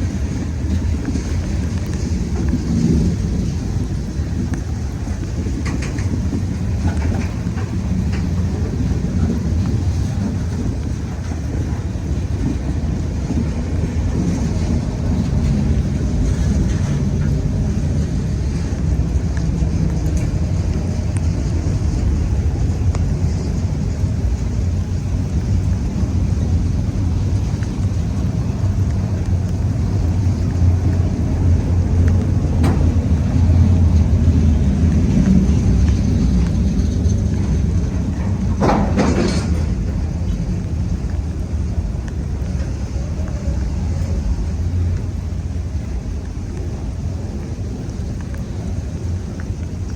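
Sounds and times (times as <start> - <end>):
diesel freight train rumbling: 0.0 - 49.9
wind buffeting microphone: 0.0 - 49.9.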